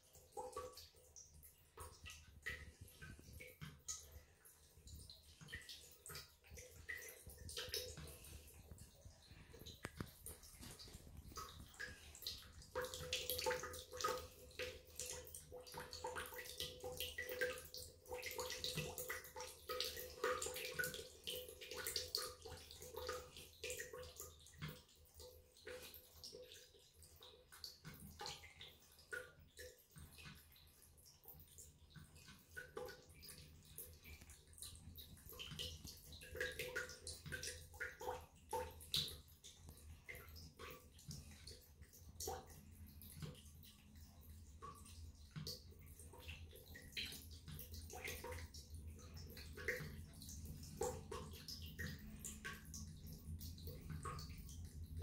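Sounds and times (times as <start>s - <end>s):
cat lapping water: 0.0s - 55.0s
water trickling and splashing: 0.0s - 55.0s.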